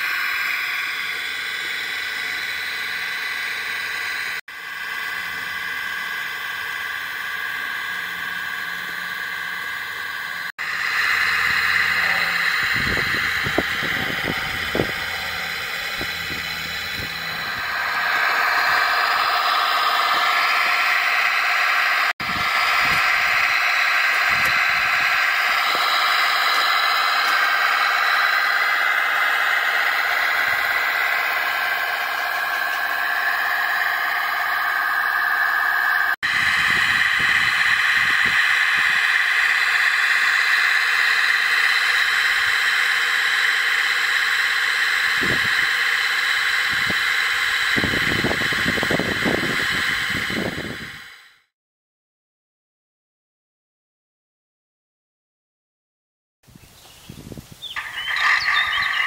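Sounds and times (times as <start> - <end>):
diesel tractor engine through speaker: 0.0 - 51.5, 57.7 - 59.0.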